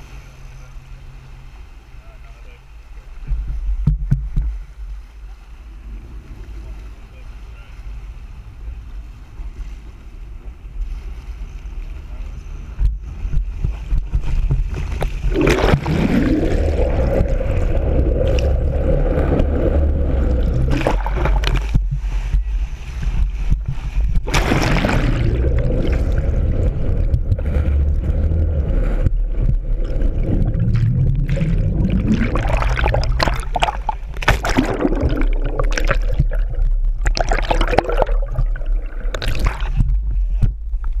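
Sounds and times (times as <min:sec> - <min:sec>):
low rumble: 0:00.0 - 0:41.0
sea water splashing and gurgling: 0:00.0 - 0:41.0.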